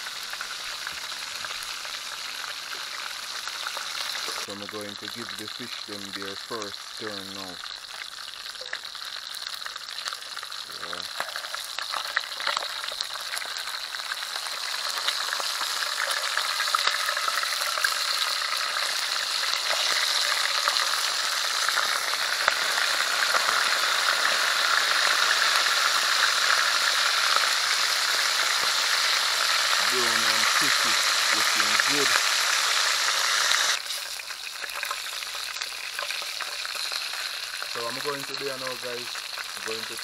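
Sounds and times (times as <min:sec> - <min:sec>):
fish frying in oil: 0:00.0 - 0:40.0.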